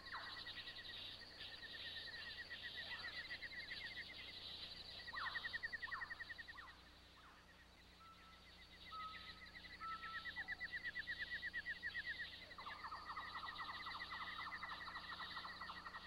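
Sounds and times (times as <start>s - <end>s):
lower rapid bird trill: 0.0s - 16.0s.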